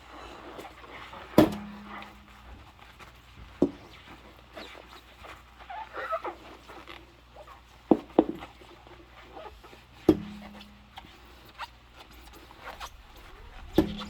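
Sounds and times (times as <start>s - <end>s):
rubber gloves squeaking on dishes: 0.0s - 14.0s.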